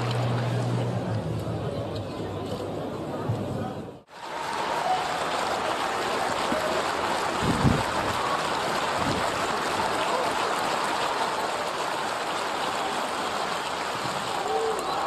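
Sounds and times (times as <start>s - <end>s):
stadium crowd murmur: 0.0s - 15.0s.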